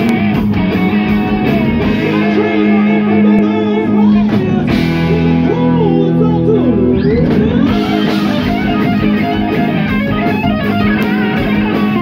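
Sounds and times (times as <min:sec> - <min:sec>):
electric guitar bent notes: 0:00.0 - 0:12.0
live rock band playing: 0:00.0 - 0:12.0.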